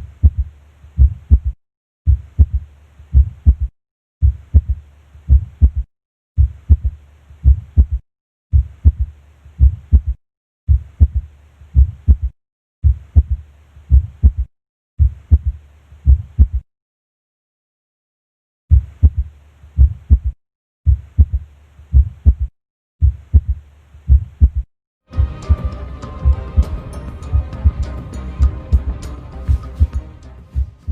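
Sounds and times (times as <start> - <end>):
heartbeat thuds: 0.0 - 16.6, 18.7 - 28.9, 29.5 - 30.9.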